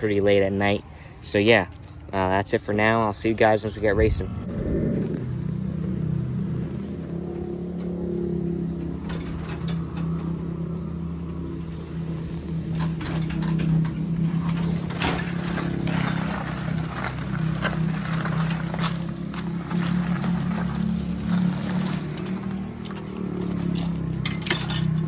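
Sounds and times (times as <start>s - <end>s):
engine running steadily: 3.7s - 25.0s.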